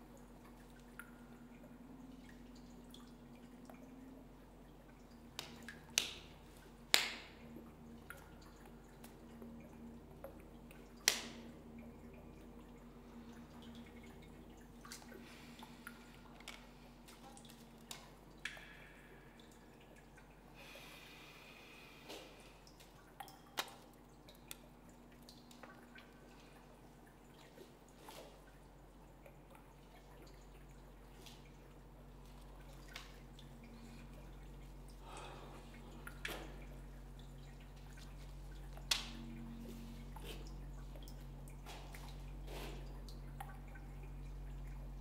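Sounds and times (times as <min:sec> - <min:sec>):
low steady hum: 0:00.0 - 0:45.0
water dripping in echoing room: 0:00.0 - 0:45.0.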